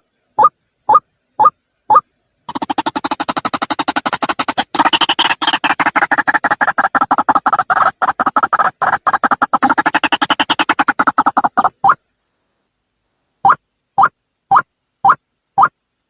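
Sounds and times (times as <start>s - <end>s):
recorded waterhen calls: 0.0s - 12.1s, 13.4s - 15.8s.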